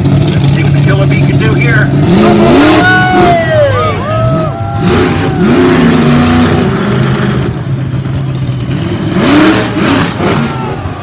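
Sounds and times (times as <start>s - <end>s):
loud noisy rumble: 0.0s - 11.0s
truck engine revving hard: 0.0s - 11.0s.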